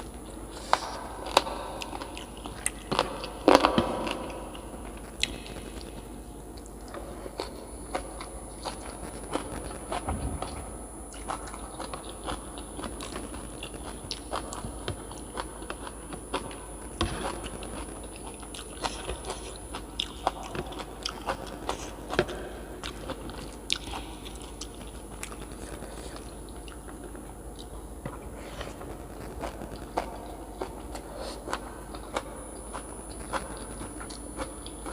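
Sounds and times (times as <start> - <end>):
person chewing crunchy food: 0.0 - 34.9.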